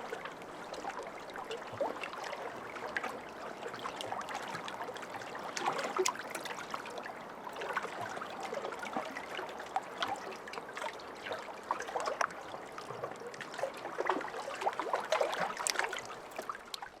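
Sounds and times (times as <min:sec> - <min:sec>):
small water splashes: 0:00.0 - 0:17.0
lake waves lapping: 0:00.6 - 0:16.6.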